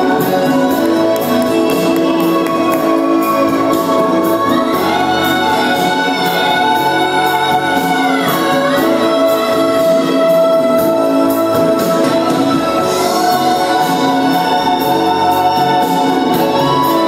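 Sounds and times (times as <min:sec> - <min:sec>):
orchestral ballad music: 0:00.0 - 0:17.0.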